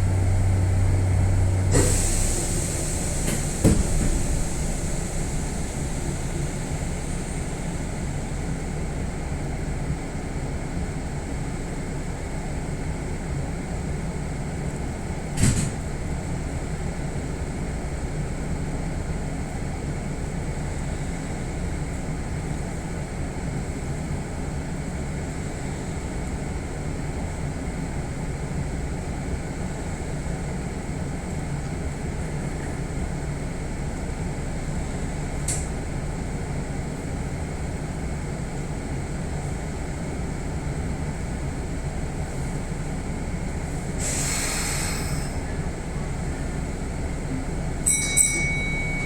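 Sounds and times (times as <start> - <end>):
train car hum: 0.0 - 49.0.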